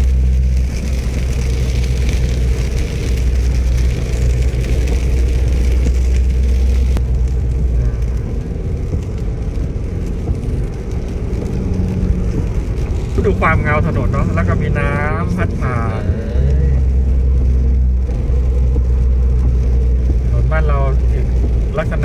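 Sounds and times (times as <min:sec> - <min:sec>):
car engine hum: 0:00.0 - 0:22.0
tyres hissing on wet road: 0:00.0 - 0:22.0.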